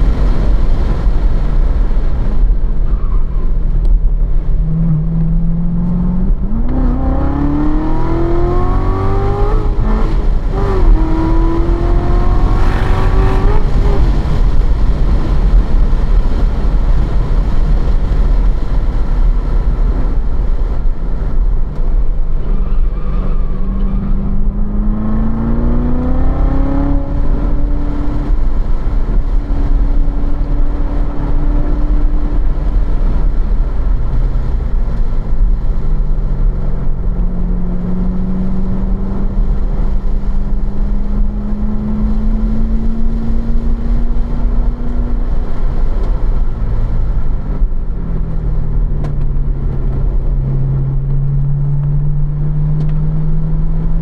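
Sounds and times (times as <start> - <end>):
car engine in cabin: 0.0 - 54.0
road and wind rumble: 0.0 - 54.0.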